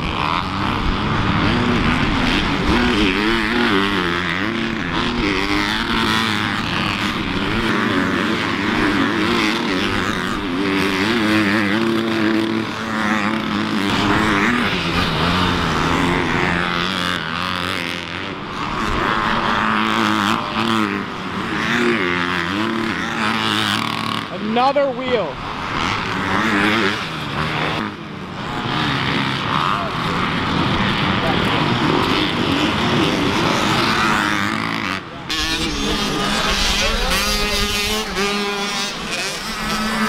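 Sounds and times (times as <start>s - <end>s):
motocross bike engines revving: 0.0s - 40.0s.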